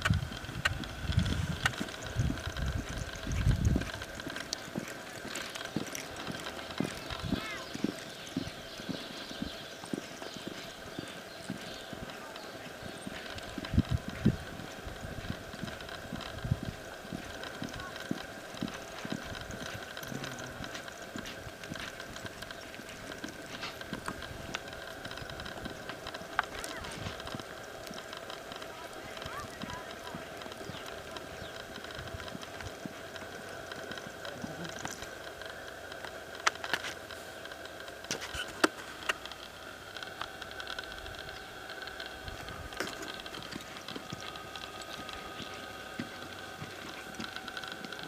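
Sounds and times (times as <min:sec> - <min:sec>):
faint steady hum: 0:00.0 - 0:48.0
hoofbeats on dirt: 0:00.0 - 0:48.0
hooves and tack clicking: 0:00.0 - 0:48.0.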